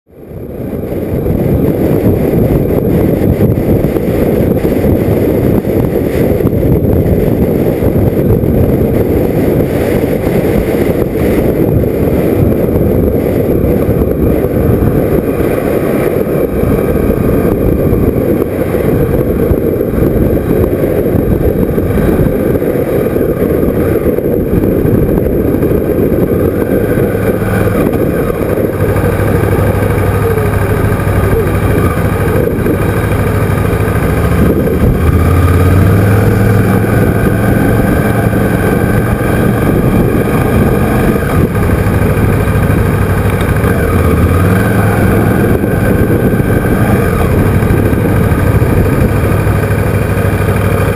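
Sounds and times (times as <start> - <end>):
wind rushing over microphone: 0.0 - 50.9
motorcycle engine: 0.1 - 50.9.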